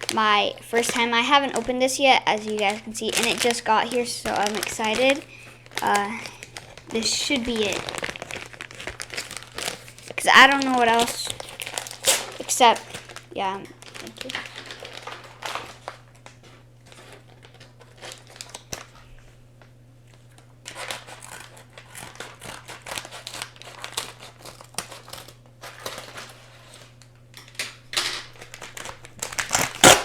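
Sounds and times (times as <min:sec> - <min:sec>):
packaging tearing: 0:00.0 - 0:19.3, 0:20.1 - 0:30.0
packaging crinkling and rustling: 0:00.0 - 0:30.0.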